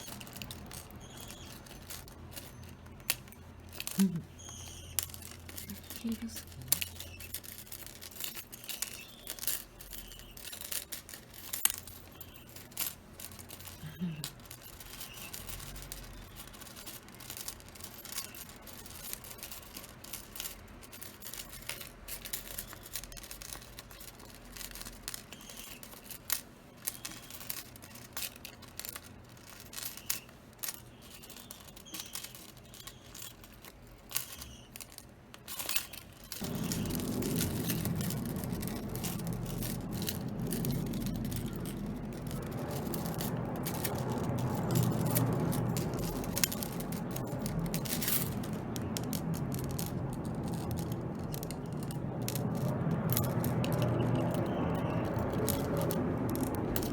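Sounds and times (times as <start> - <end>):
metal chain toy rattling: 0.0 - 56.9.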